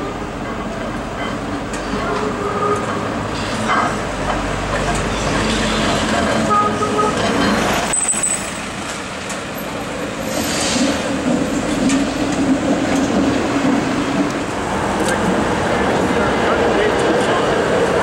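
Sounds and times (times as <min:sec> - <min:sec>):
streetcar running on tracks: 0:00.0 - 0:18.0.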